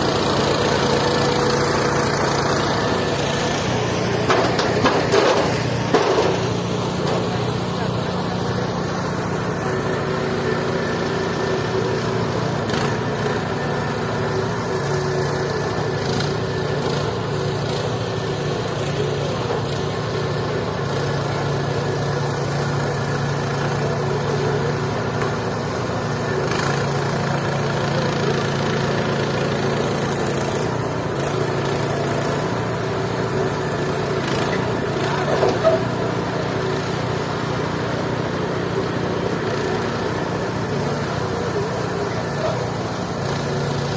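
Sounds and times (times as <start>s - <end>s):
sawmill machine drone: 0.0s - 43.9s.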